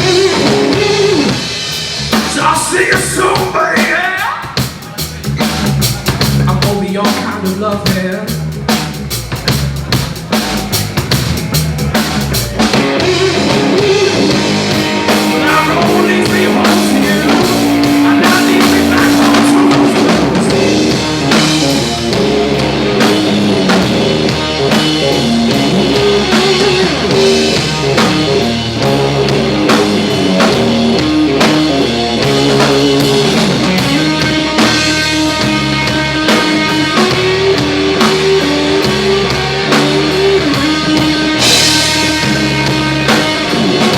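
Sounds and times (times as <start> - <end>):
electric guitar bending notes: 0.0 - 3.9, 10.0 - 43.9
drum kit: 0.0 - 43.9.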